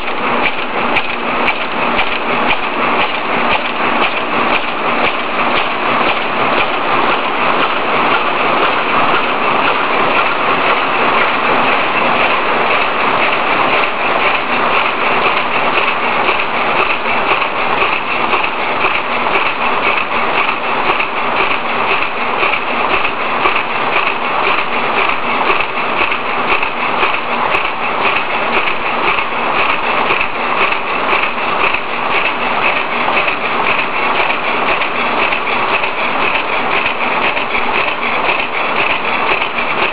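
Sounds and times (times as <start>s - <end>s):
bag-making machine clatter: 0.0s - 39.9s.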